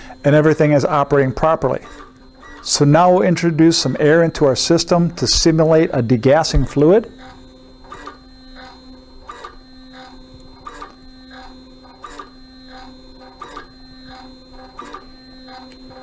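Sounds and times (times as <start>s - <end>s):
pump motor whine: 0.0s - 16.0s.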